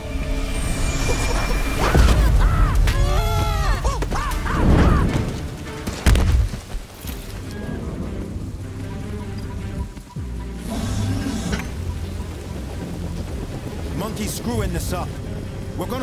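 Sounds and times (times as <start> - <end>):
dramatic music: 0.0 - 16.0.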